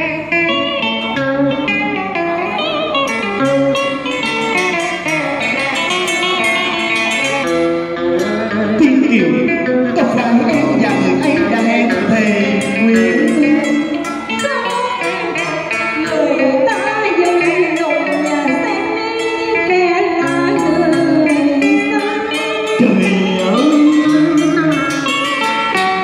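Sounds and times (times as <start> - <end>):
person singing: 0.0 - 26.0
plucked zither with wavering notes: 0.1 - 26.0.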